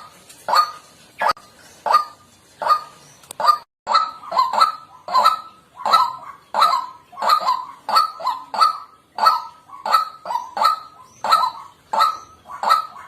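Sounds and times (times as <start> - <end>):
waterhen harsh croaking calls: 0.0 - 13.0.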